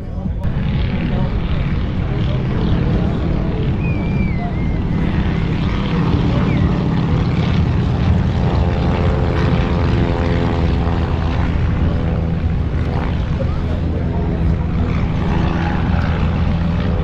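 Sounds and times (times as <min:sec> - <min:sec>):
aircraft engine drone: 0:00.0 - 0:17.0
pitched engine hum: 0:00.0 - 0:17.0.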